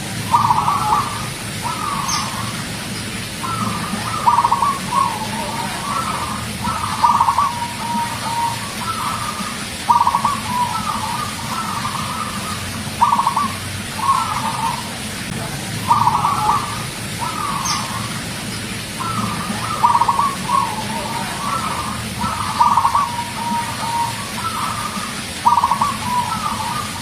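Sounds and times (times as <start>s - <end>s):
dove cooing: 0.0s - 27.0s
low steady hum: 0.0s - 27.0s.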